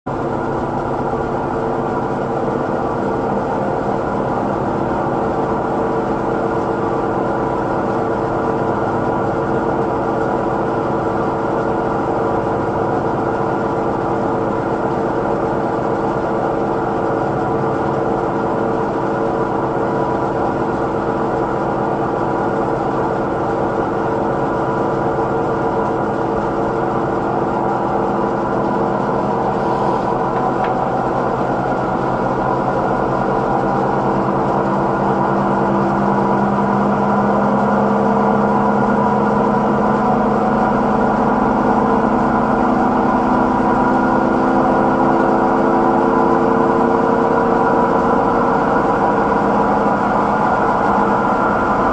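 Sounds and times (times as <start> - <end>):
washing machine spin cycle: 0.1 - 51.9.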